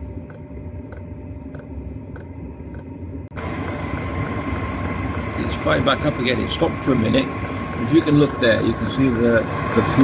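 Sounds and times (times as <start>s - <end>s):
blower whine: 0.0s - 10.0s
heater running rumble: 0.0s - 10.0s.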